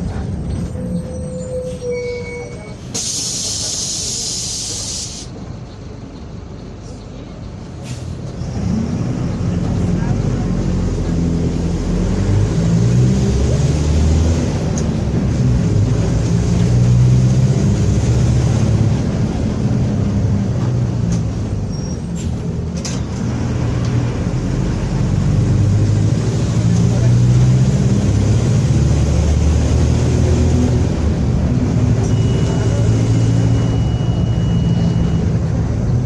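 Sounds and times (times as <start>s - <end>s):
bus diesel engine droning: 0.0s - 36.0s.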